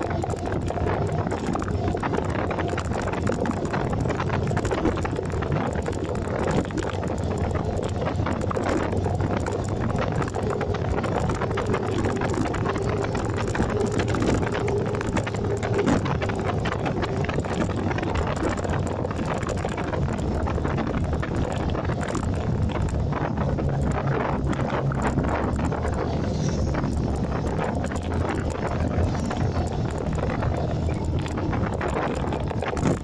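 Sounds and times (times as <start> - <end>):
motorcycle engine hum: 0.0 - 33.0
wind rush on microphone: 0.0 - 33.0.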